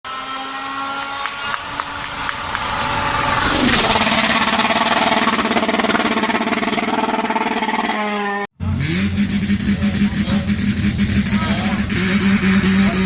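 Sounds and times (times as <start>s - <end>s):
another engine: 0.1s - 13.0s
rally car engine revving: 0.1s - 13.0s.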